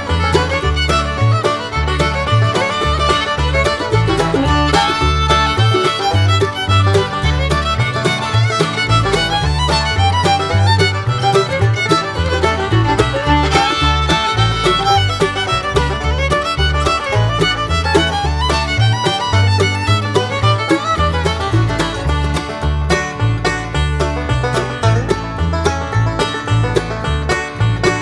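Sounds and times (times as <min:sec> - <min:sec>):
fiddle music over bass beat: 0:00.0 - 0:28.0.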